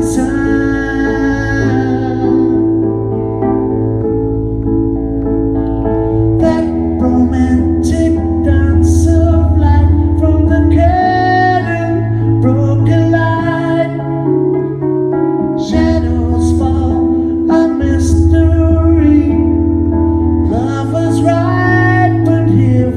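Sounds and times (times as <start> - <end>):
man singing into a microphone: 0.0 - 3.3, 6.4 - 14.8, 15.5 - 22.9
sustained keyboard chords: 0.0 - 22.9.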